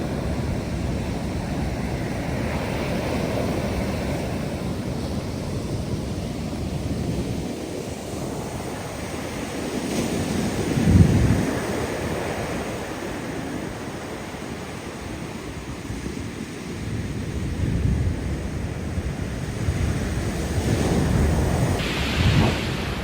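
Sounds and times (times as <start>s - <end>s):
ocean surf washing onto beach: 0.0s - 23.0s
wind rumbling on microphone: 0.0s - 23.0s.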